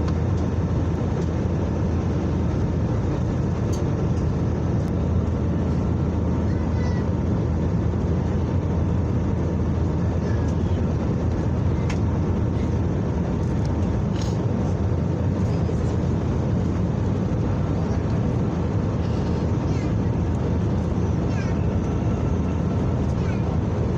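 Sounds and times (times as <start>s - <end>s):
airliner cabin engine and airflow noise: 0.0s - 23.9s.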